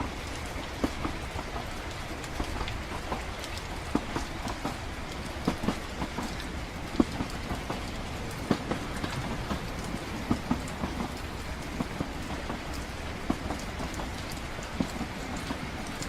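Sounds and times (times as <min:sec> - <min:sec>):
rain: 0:00.0 - 0:16.0
train carriage rumbling: 0:00.0 - 0:16.0.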